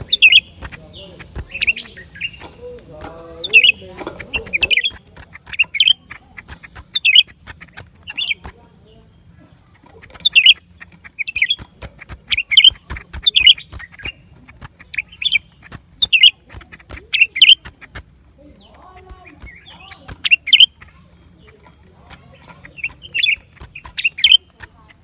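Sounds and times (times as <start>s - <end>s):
sharp clicks: 0.0s - 8.6s, 9.7s - 25.0s
bird chirping: 0.0s - 25.0s.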